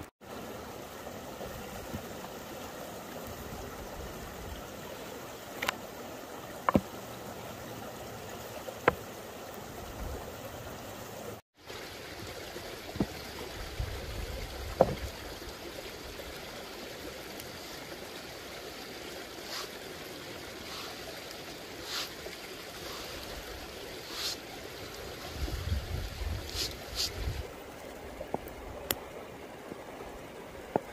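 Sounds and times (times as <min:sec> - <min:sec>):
small stream running: 0:00.0 - 0:30.9.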